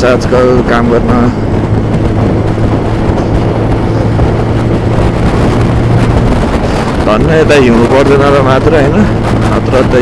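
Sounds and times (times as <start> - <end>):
motorcycle engine running: 0.0 - 10.0
wind rush on microphone: 0.0 - 10.0.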